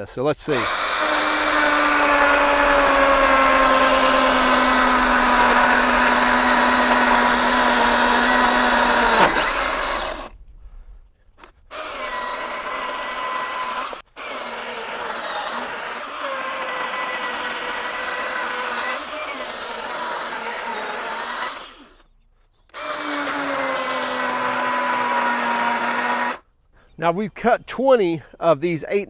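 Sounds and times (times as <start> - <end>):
cordless chainsaw cutting log: 0.4 - 10.4, 11.4 - 26.4.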